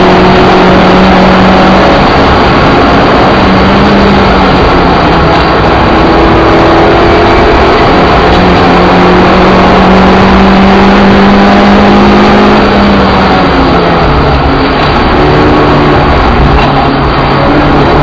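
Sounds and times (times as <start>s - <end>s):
car engine running hard: 0.0s - 18.0s
road and wind noise: 0.0s - 18.0s.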